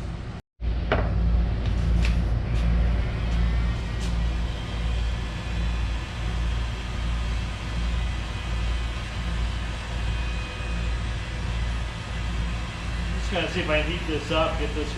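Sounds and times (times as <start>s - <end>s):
heating tool running: 0.9s - 14.9s.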